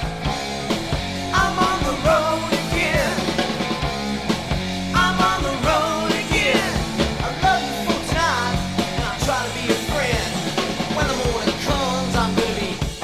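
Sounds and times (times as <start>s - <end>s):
rock music from vinyl record: 0.0s - 13.0s.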